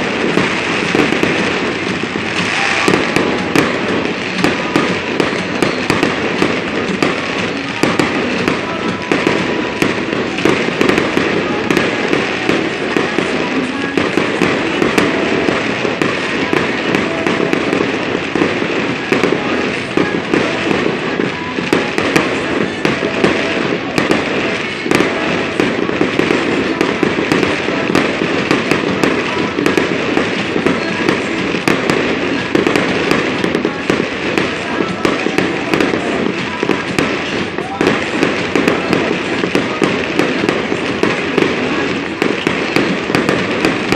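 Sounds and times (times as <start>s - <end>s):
fireworks crackling and popping: 0.0s - 43.9s.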